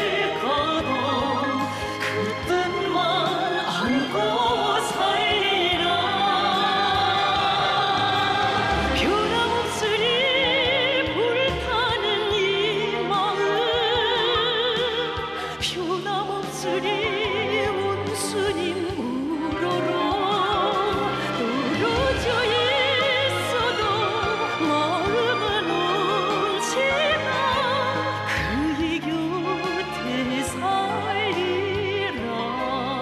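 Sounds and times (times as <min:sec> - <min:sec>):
operatic singing with vibrato: 0:00.0 - 0:33.0
orchestra: 0:00.0 - 0:33.0.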